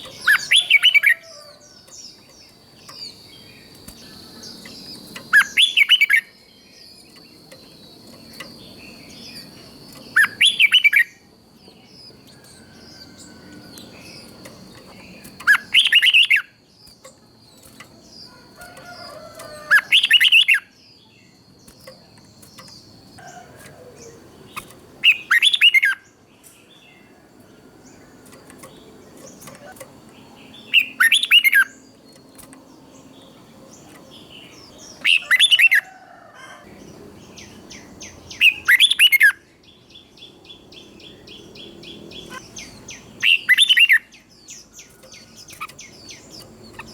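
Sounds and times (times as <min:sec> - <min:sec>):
bird singing chattering phrases: 0:00.0 - 0:27.2, 0:28.0 - 0:35.8, 0:36.8 - 0:46.9.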